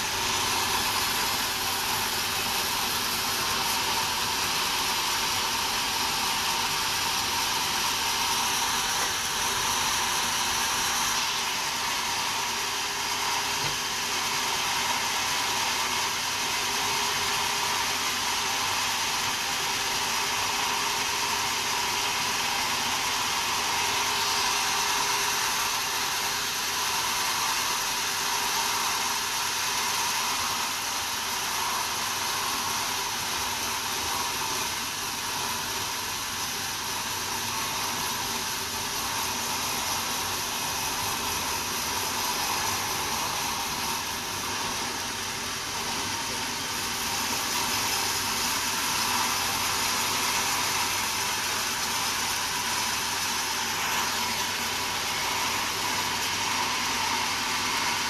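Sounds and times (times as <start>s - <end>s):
sawmill machinery whirring: 0.0s - 58.0s.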